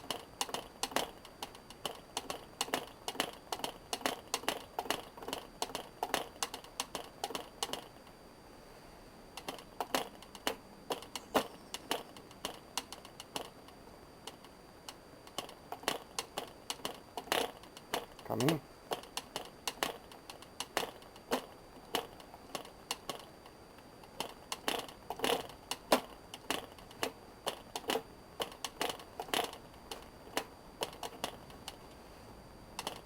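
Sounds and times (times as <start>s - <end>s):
model engine propeller clicking: 0.0s - 8.1s, 9.4s - 31.8s, 32.8s - 33.0s.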